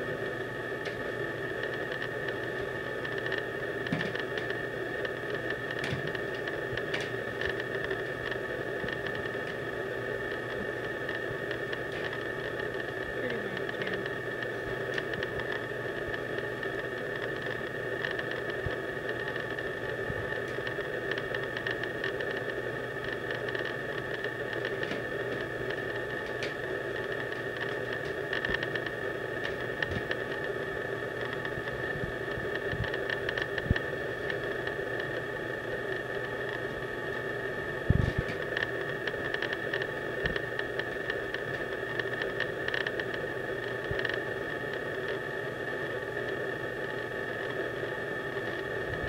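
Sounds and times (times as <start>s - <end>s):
steady hiss with high whine: 0.0s - 49.0s.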